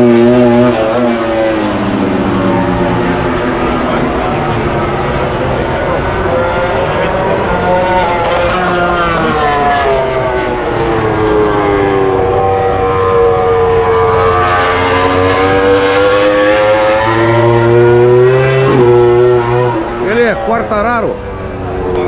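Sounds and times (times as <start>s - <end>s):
racing motorcycle engines passing: 0.0s - 22.0s.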